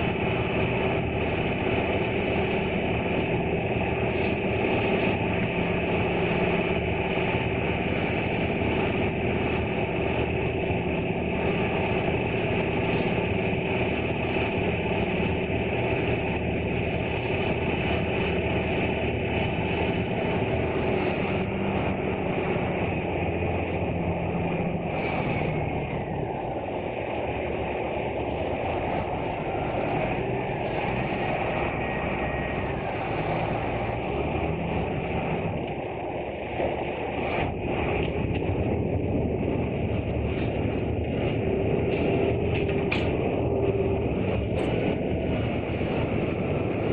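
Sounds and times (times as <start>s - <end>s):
ferry engine droning: 0.0s - 46.9s.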